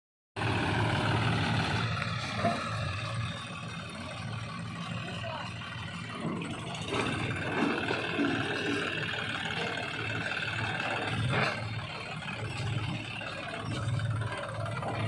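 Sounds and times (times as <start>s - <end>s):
diesel engine running: 0.4s - 15.0s.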